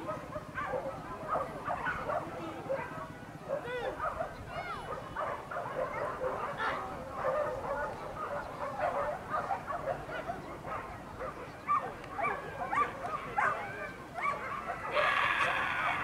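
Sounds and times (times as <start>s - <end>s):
dogs yelping and barking: 0.0s - 16.0s.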